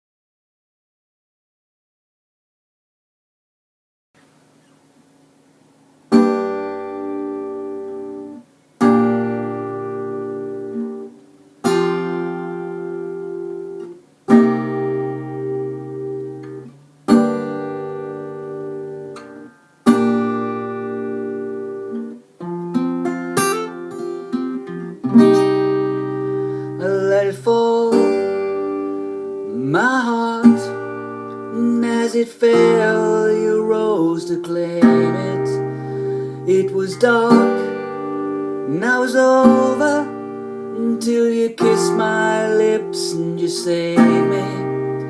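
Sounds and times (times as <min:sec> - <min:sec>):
acoustic guitar strumming: 0:06.1 - 0:45.0.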